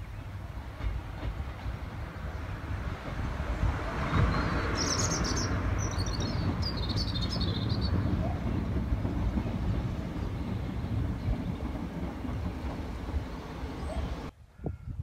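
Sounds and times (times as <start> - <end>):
train rumbling over viaduct: 0.0 - 14.3.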